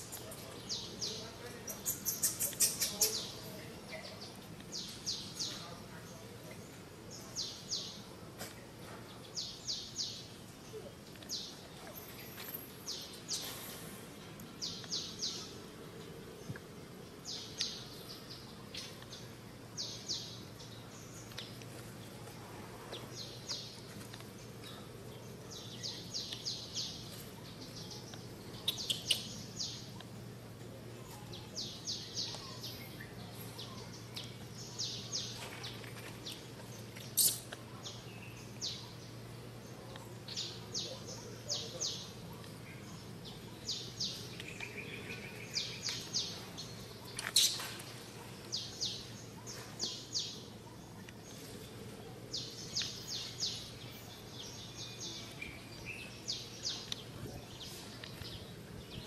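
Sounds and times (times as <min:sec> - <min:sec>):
bird chirping: 0:00.0 - 0:08.1, 0:09.1 - 0:59.0.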